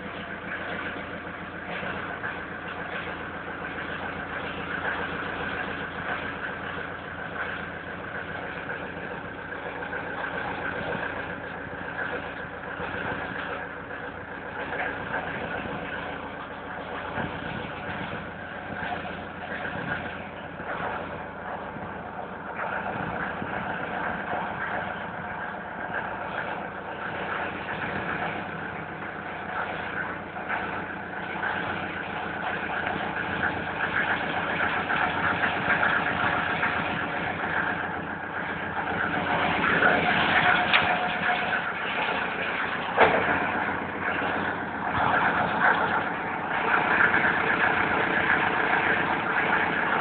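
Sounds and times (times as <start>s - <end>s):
diesel engine idling: 0.0s - 50.0s.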